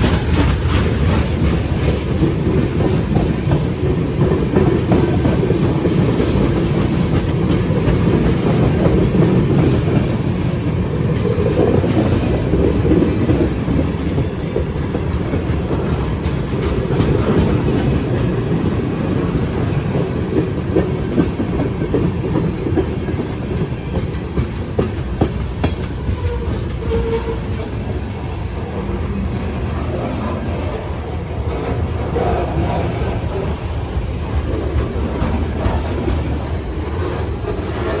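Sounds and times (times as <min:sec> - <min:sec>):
freight train rumbling past: 0:00.0 - 0:38.0
wheels clacking over rail joints: 0:00.0 - 0:38.0.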